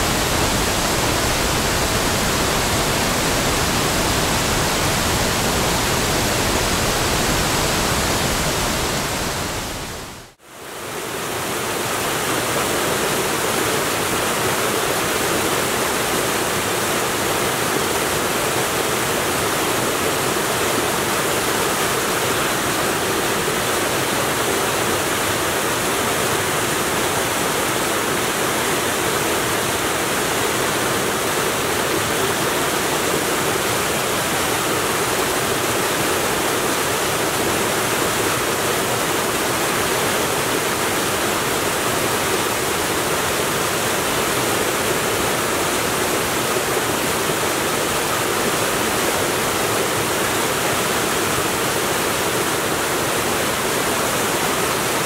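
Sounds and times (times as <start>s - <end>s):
stream rushing over boulders: 0.0s - 55.0s.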